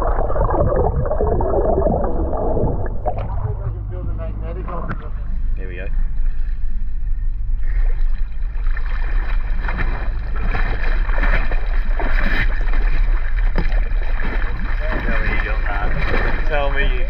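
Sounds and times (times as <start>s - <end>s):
water splashing against hull: 0.0s - 17.0s
motorboat engine drone: 2.7s - 17.0s.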